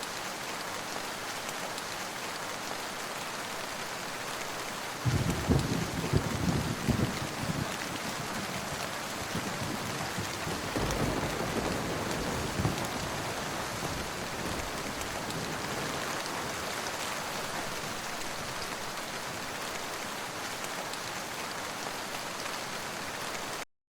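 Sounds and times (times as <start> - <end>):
rain falling: 0.0 - 23.6.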